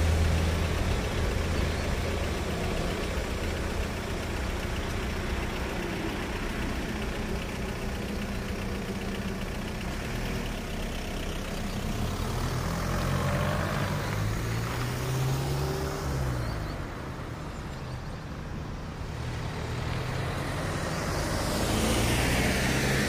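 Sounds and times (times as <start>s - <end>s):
cars and truck passing: 0.0s - 23.0s.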